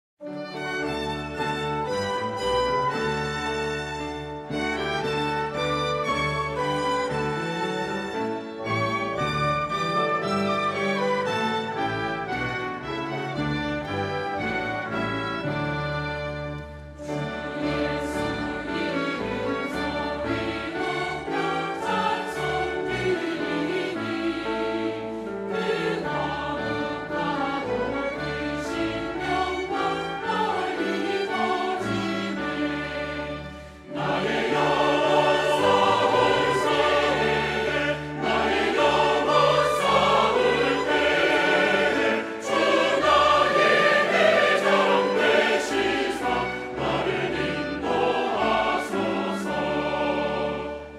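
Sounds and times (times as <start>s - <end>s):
church choir singing a hymn: 0.5s - 16.4s, 17.0s - 50.9s.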